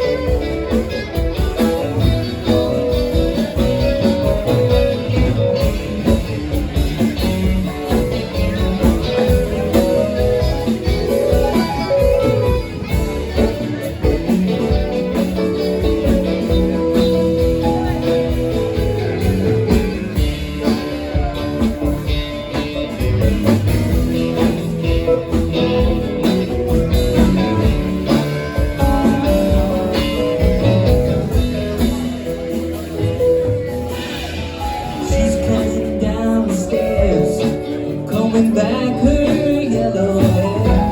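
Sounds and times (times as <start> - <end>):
band playing instrumental: 0.0 - 40.9
lead guitar: 0.0 - 40.9.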